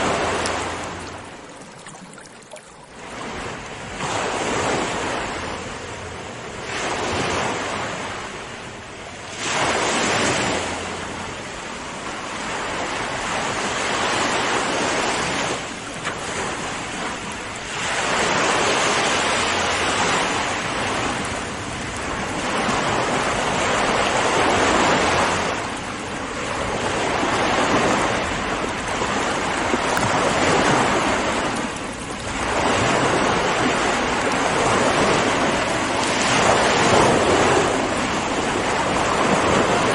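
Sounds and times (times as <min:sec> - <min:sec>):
ocean waves breaking on shore: 0:00.0 - 0:39.9
wind: 0:00.0 - 0:39.9.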